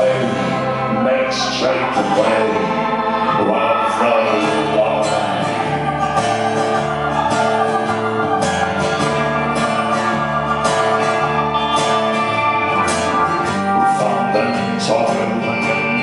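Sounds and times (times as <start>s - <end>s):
band playing instrumental: 0.0s - 16.0s
guitar: 0.0s - 16.0s
low bass line: 0.0s - 16.0s.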